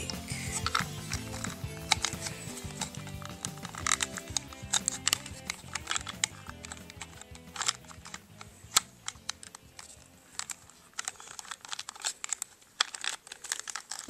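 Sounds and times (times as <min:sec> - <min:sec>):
plastic toy clicking: 0:00.0 - 0:14.0.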